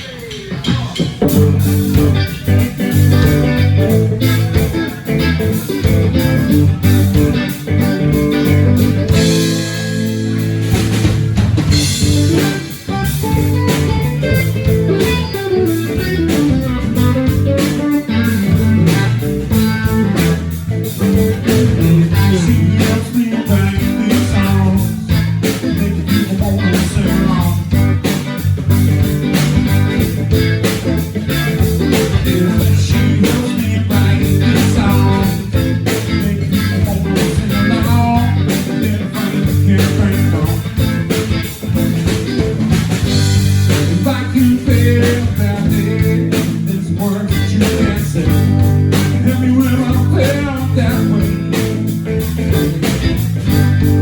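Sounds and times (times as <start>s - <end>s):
blues-rock band playing: 0.0s - 54.0s.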